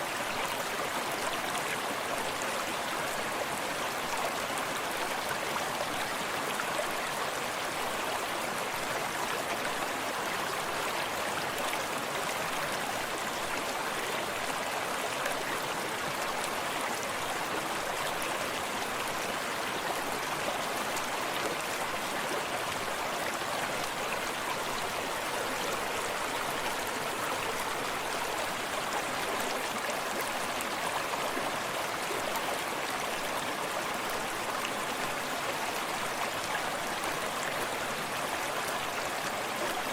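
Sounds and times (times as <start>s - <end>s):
stream babbling over stones: 0.1s - 39.9s.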